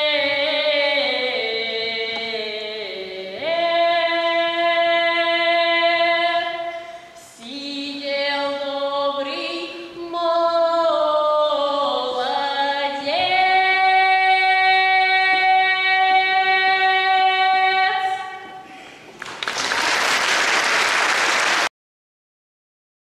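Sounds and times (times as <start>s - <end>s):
girl singing unaccompanied: 0.0s - 18.8s.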